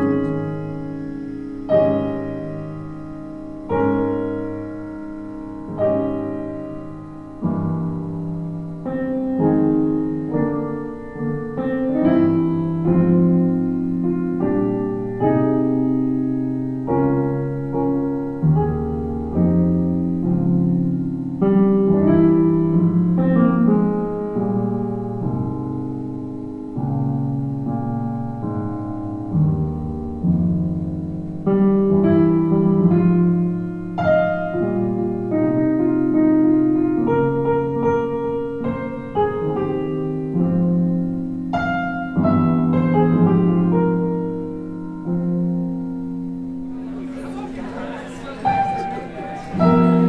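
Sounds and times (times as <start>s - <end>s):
solo piano music: 0.0s - 50.0s.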